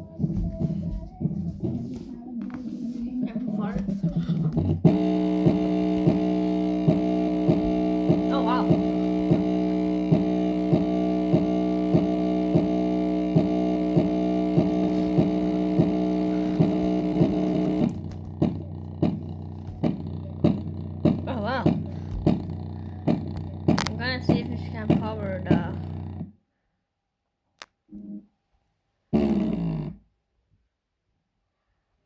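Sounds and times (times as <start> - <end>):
bass beat: 0.0 - 26.3, 29.2 - 30.0
speaker droning tone: 0.0 - 26.3.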